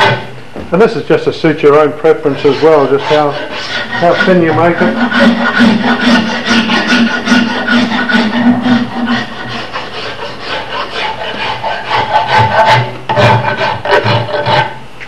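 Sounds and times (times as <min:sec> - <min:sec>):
rasp filing wood: 0:02.0 - 0:14.8.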